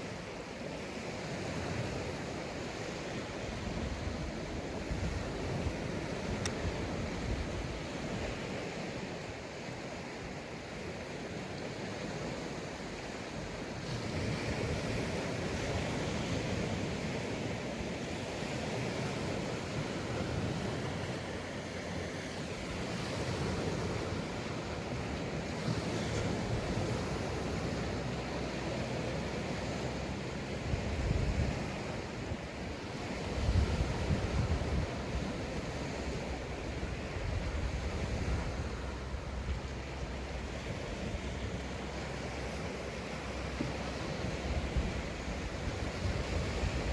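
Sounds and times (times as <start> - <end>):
waves breaking on a beach: 0.0 - 46.9
wind buffeting microphone: 0.9 - 9.3, 10.7 - 46.9.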